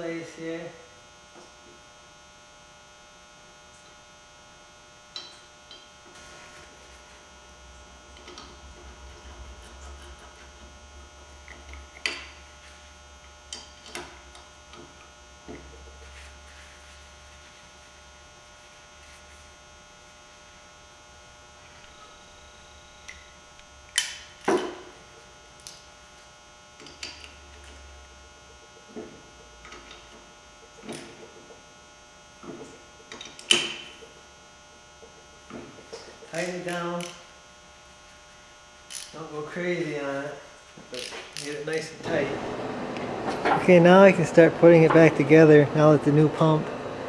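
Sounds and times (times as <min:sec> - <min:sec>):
steady electrical hum: 0:00.0 - 0:47.0.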